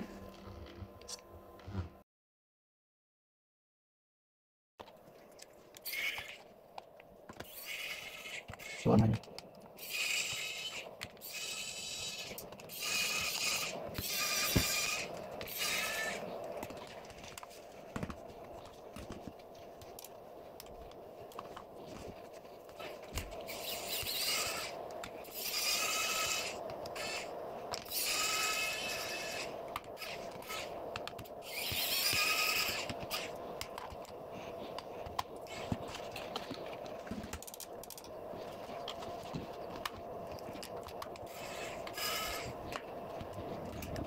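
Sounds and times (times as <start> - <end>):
faint steady hum: 0.0 - 2.0, 4.8 - 44.0.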